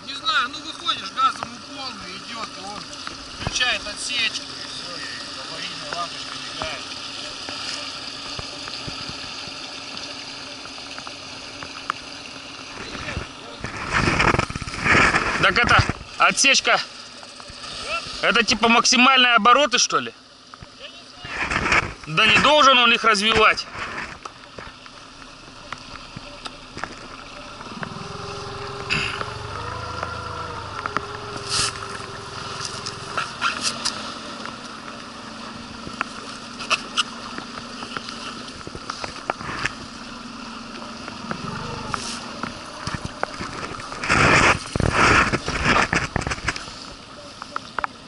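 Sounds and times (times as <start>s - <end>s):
outboard motor running: 0.0s - 48.0s
water splashing: 0.0s - 48.0s.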